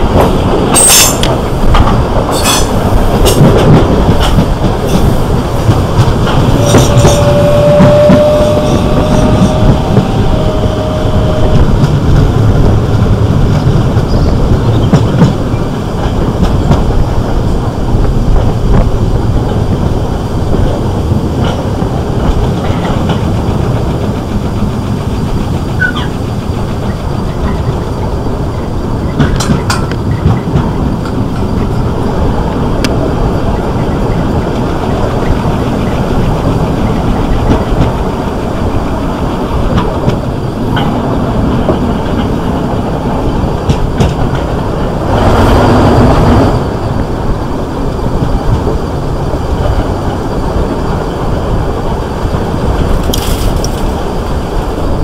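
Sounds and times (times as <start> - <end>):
wheels clicking over rail joints: 0.0 - 47.2, 48.1 - 55.0
electric train rumbling on rails: 0.0 - 55.0.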